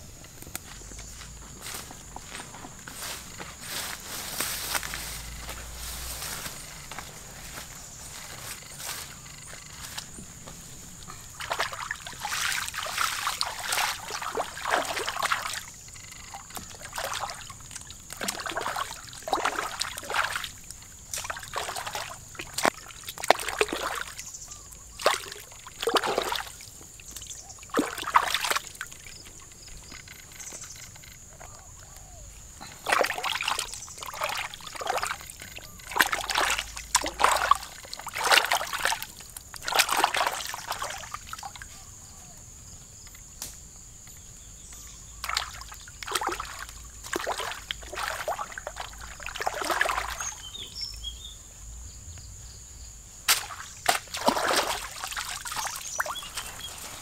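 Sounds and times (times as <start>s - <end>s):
water splashing and sloshing: 0.0s - 42.0s, 44.7s - 51.3s, 53.2s - 57.0s.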